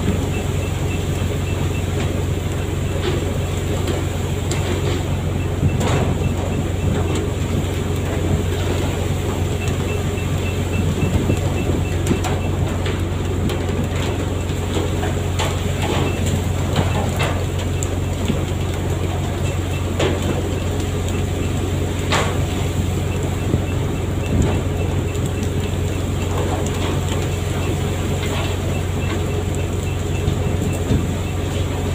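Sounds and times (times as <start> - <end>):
boat engine running: 0.0 - 31.9.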